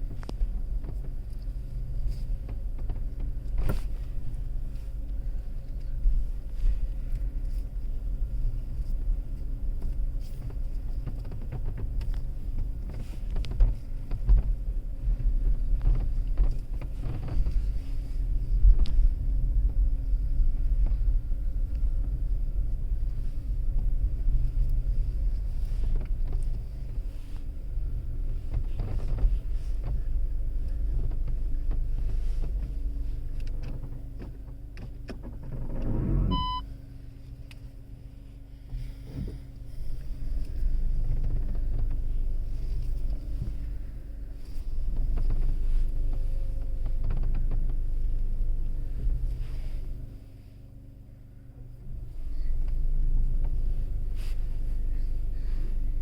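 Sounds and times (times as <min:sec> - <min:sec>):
car running low hum: 0:00.0 - 0:56.0.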